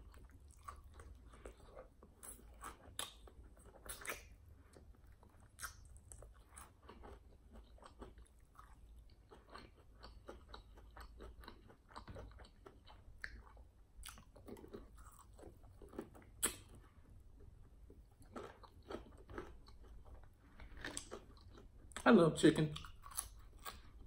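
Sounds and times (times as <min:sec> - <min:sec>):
chewing crispy chicken wings: 0:00.0 - 0:24.0.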